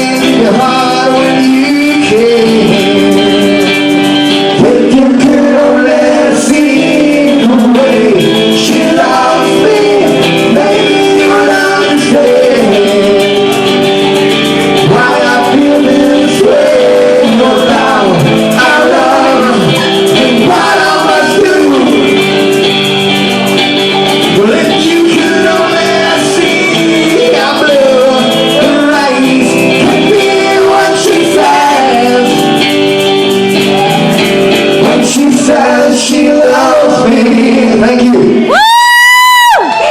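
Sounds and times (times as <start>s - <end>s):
bending lead guitar melody: 0.0s - 39.9s
rock band music: 0.0s - 39.9s.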